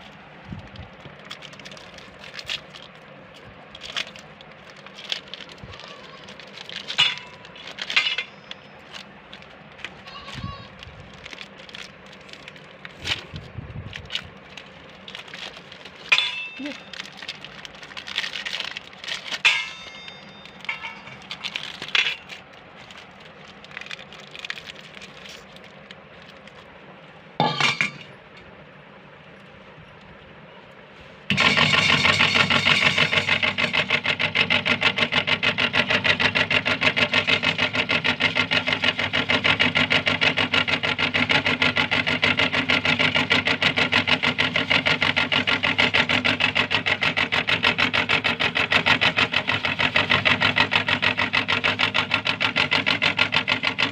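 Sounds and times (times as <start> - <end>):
crackles and clinks: 0.0 - 26.8, 27.4 - 28.5, 31.3 - 53.9
meat grinder rattling: 0.8 - 26.6, 31.3 - 53.9.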